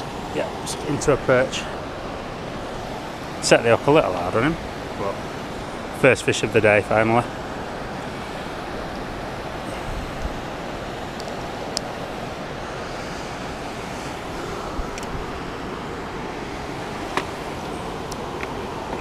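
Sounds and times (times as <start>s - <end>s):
river water rushing past rocks: 0.0s - 19.0s.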